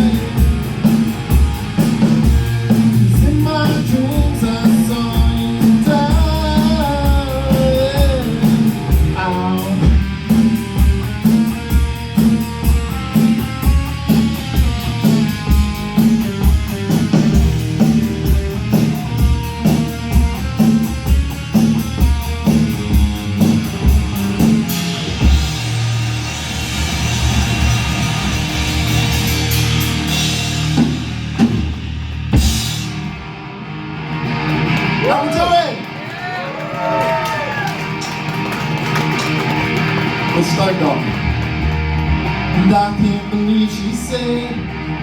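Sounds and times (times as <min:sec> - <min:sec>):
electric guitar lead lines: 0:00.0 - 0:45.0
rock band playing live: 0:00.0 - 0:45.0.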